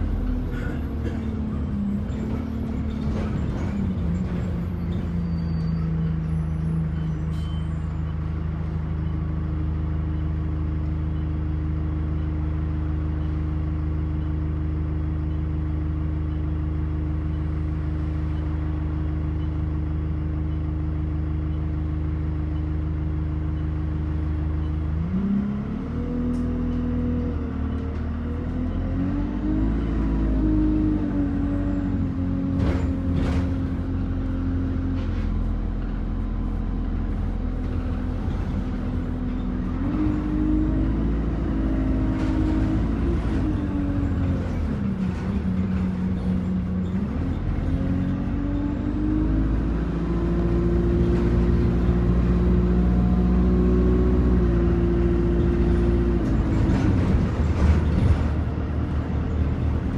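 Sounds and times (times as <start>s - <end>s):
bus engine idling and revving: 0.0s - 59.9s.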